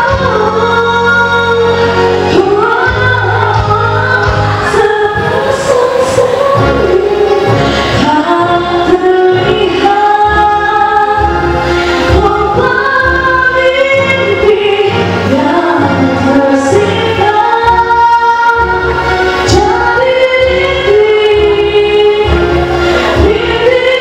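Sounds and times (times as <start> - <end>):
instrumental backing track: 0.0 - 24.0
woman singing into microphone: 0.0 - 24.0.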